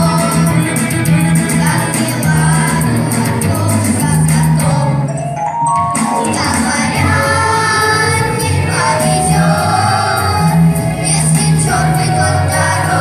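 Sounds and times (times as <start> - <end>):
children's choir singing: 0.0 - 5.1, 5.9 - 13.0
instrumental accompaniment with bass: 0.0 - 13.0.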